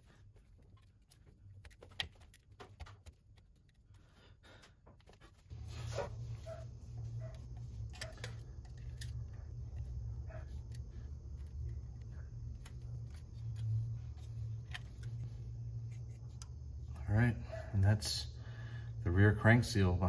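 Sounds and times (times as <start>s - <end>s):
steady low hum: 3.0s - 20.0s.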